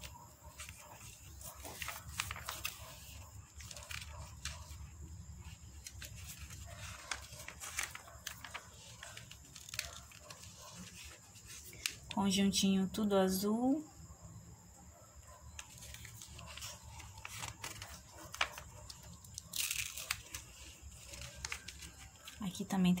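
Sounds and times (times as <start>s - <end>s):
page turning: 0.0s - 12.2s, 15.5s - 22.4s
paper pages rustling: 0.0s - 12.2s, 15.5s - 22.7s.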